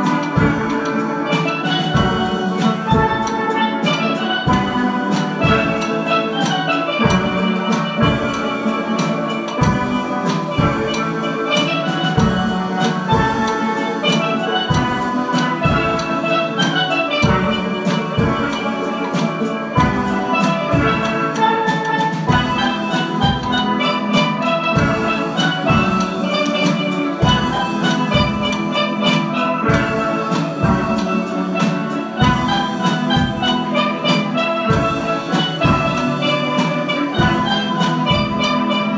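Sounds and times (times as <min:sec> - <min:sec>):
steady drum beat: 0:00.0 - 0:38.9
steelpan melody: 0:00.0 - 0:38.9.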